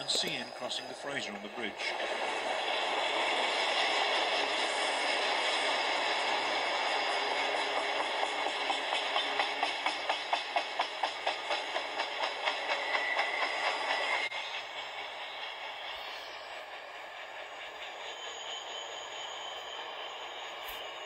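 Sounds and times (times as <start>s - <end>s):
freight train wheels clacking: 0.0s - 21.0s.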